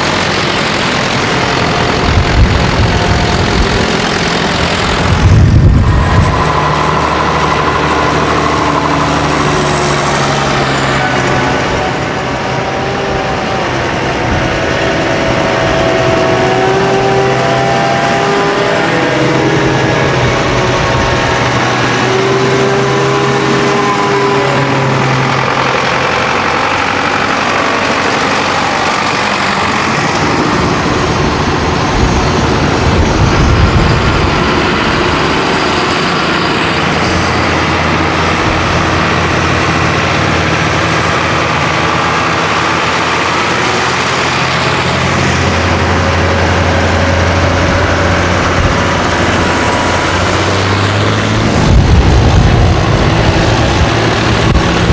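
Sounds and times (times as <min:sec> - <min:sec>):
tractors driving past: 0:00.0 - 0:54.9.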